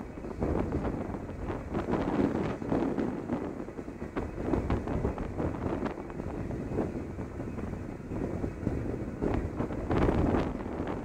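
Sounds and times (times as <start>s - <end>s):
rush of wind and sea: 0.0s - 11.0s
wind buffeting microphone: 0.0s - 11.0s.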